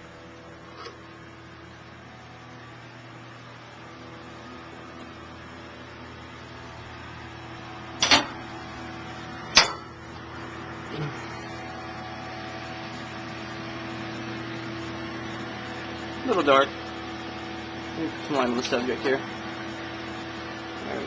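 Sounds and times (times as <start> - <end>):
server fans whirring: 0.0 - 21.0.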